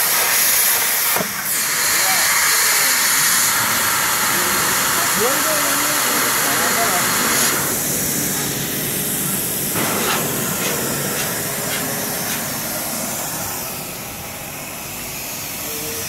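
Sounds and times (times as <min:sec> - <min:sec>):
plasma torch hissing: 0:00.0 - 0:16.0.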